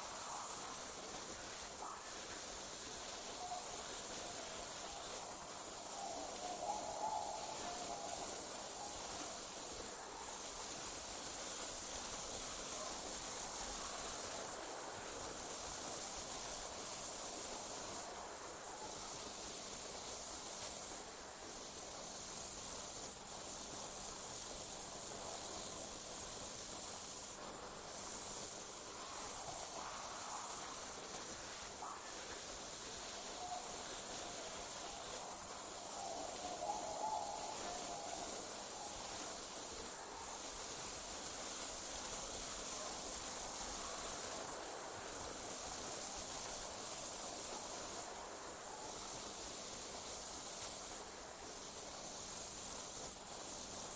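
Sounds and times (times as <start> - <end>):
crickets trilling: 0.0 - 14.5, 18.7 - 53.9.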